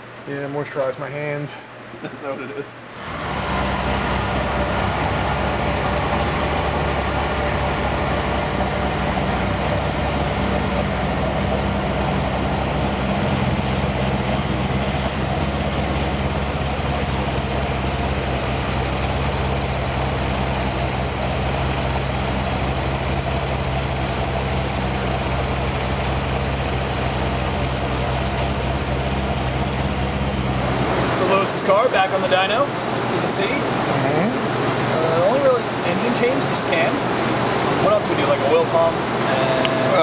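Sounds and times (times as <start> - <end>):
car engine idling: 2.9 - 40.0.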